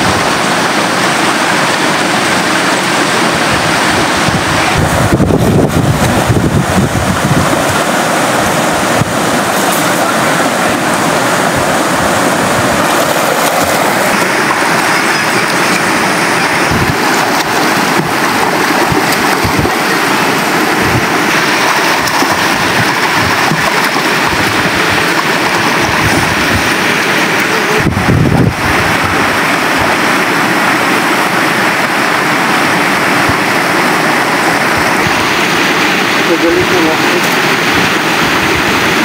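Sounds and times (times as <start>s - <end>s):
river rushing over stones: 0.0s - 39.0s.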